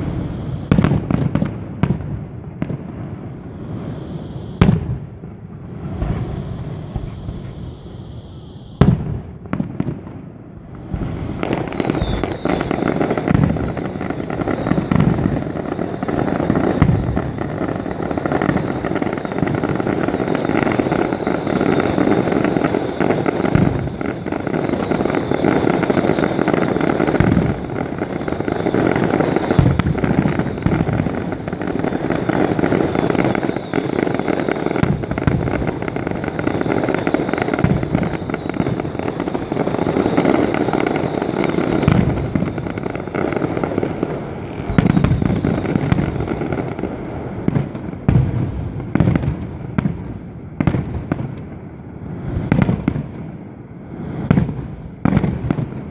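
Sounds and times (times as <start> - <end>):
firework bang: 0.0 - 51.5, 52.1 - 55.9
firework shells booming: 0.0 - 51.6
fireworks crackling barrage: 0.0 - 55.9.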